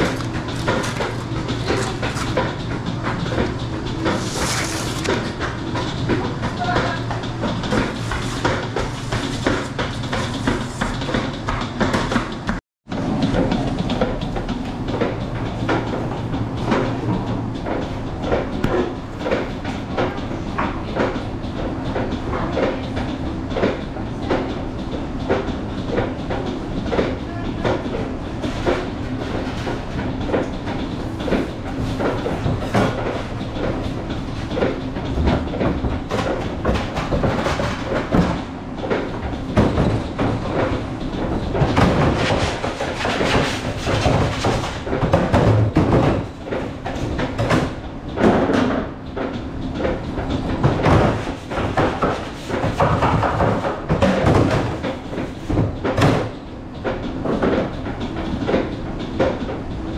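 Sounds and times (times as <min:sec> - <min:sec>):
low machine rumble: 0:00.0 - 0:53.9.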